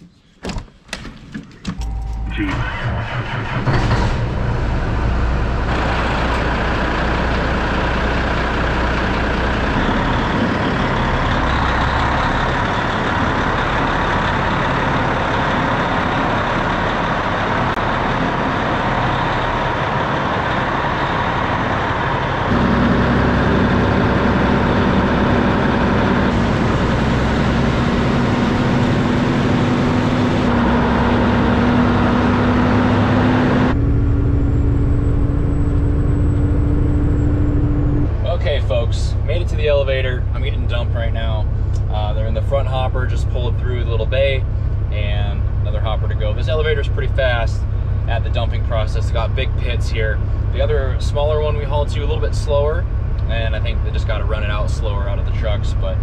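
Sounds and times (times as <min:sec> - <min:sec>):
truck diesel engine running: 0:01.8 - 0:56.0.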